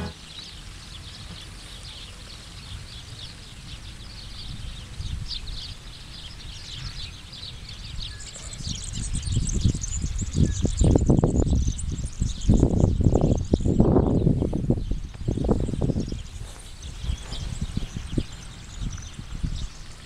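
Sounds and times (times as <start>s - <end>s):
small birds chirping: 0.0s - 20.0s
wind on microphone: 3.6s - 20.0s.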